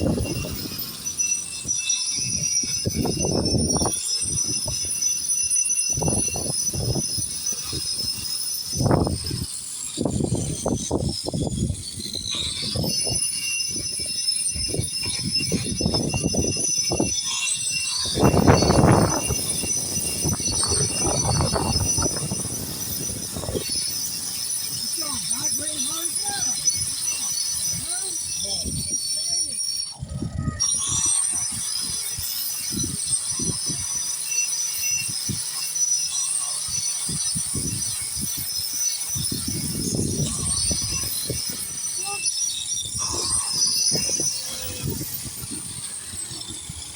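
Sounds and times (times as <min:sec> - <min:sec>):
grinder grinding concrete: 0:00.0 - 0:46.9.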